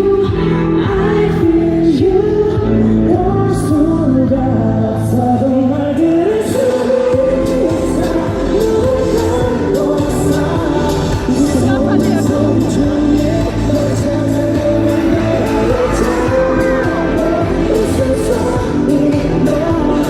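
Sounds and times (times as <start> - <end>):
group singing live: 0.0 - 20.0
pop backing track with beat: 0.0 - 20.0.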